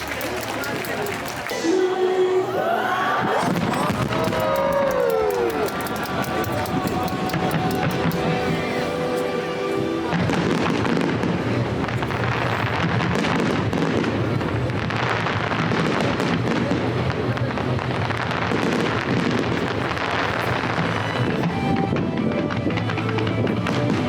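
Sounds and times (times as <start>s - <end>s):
fireworks bursting and crackling: 0.0s - 2.6s, 3.2s - 24.0s.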